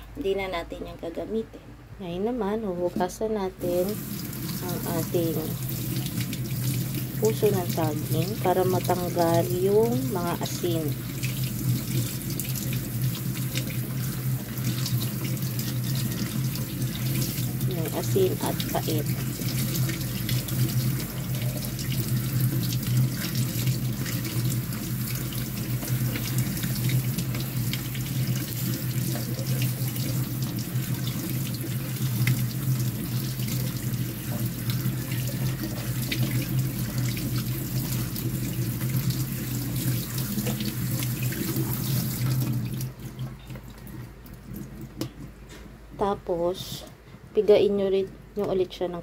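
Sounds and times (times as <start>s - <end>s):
tap water running into sink: 3.9s - 45.3s.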